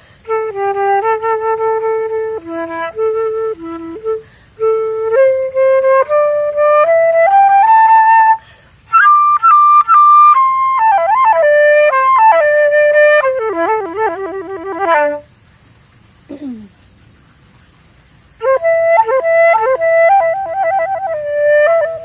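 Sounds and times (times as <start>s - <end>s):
solo flute melody: 0.0s - 15.3s, 18.4s - 22.0s.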